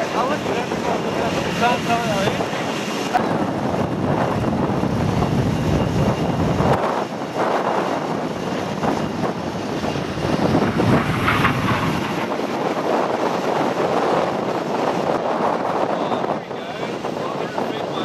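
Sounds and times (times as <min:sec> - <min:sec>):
jet flying overhead: 0:00.0 - 0:18.0
wind buffeting microphone: 0:00.0 - 0:18.0.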